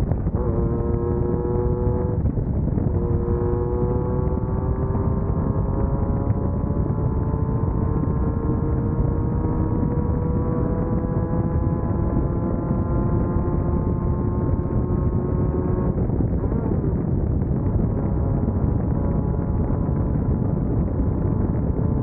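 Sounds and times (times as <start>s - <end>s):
buggy engine running hard: 0.0s - 22.0s.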